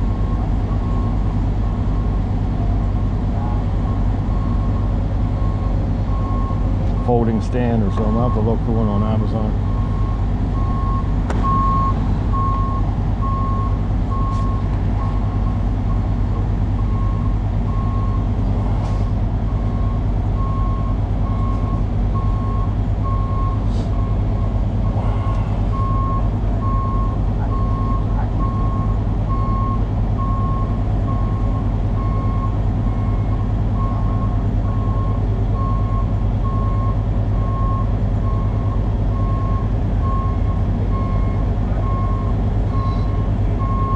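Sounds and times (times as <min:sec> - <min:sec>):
heavy engine idling: 0:00.0 - 0:43.9
backup alarm beeping: 0:03.8 - 0:16.0, 0:16.8 - 0:18.3, 0:19.5 - 0:25.0, 0:25.7 - 0:43.9.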